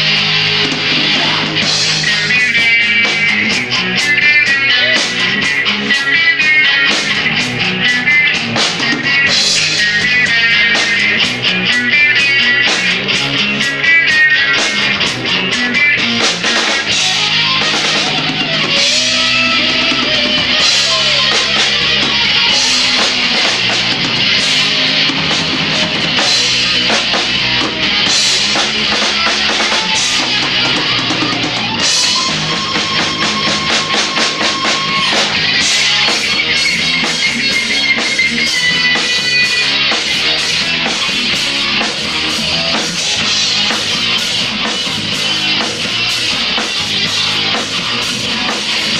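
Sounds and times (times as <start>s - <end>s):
drum kit: 0.0s - 48.9s
electric guitar: 0.0s - 48.9s
rock band playing live: 0.0s - 48.9s.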